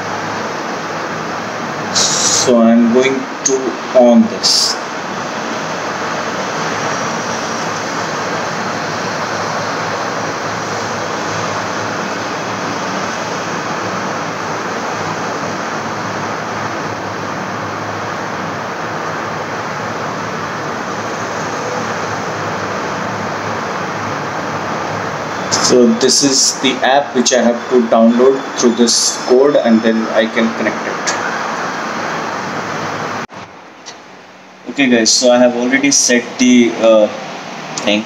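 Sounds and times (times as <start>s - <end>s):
steady hiss: 0.0s - 38.0s.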